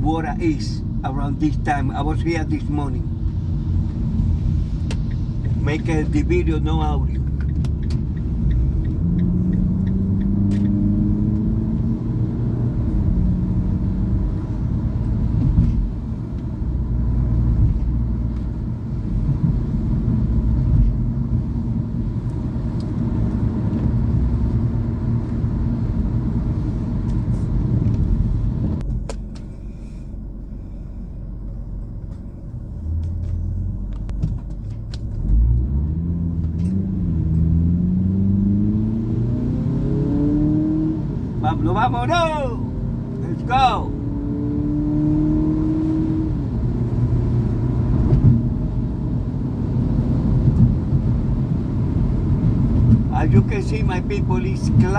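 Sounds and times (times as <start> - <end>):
car engine and road rumble: 0.0 - 54.9.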